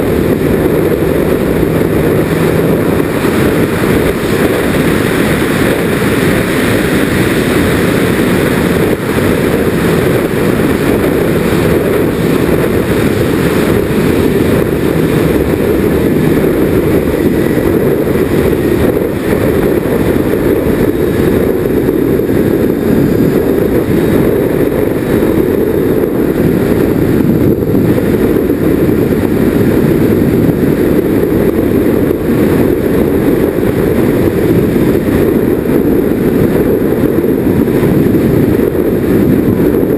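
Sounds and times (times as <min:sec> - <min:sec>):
wind noise over camera: 0:00.0 - 0:39.9.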